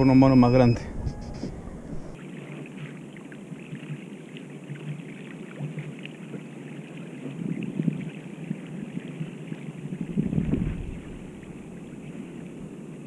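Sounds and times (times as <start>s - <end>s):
water lapping against kayak hull: 1.5s - 13.0s.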